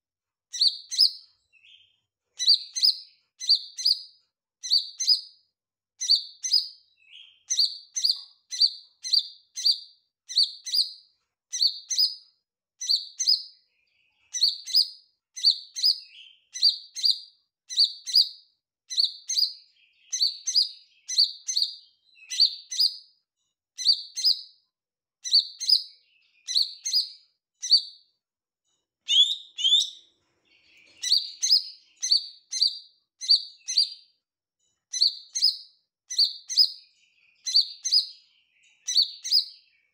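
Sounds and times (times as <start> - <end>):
bird chirping: 0.5 - 5.4, 6.0 - 39.9.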